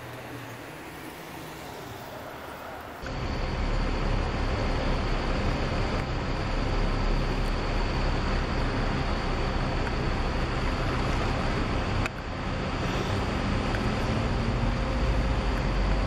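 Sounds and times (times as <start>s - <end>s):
bus engine rumbling: 0.0s - 16.0s
street background noise: 0.0s - 16.0s.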